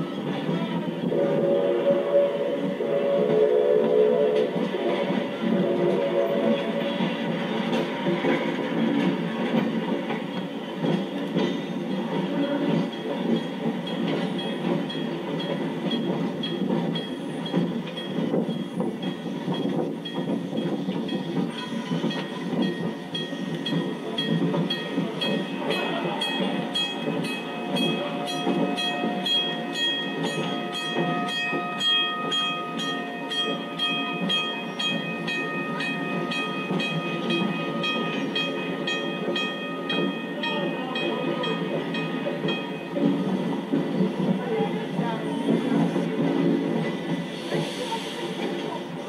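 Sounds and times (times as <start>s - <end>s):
train rumble and clickety-clack: 0.0s - 49.0s.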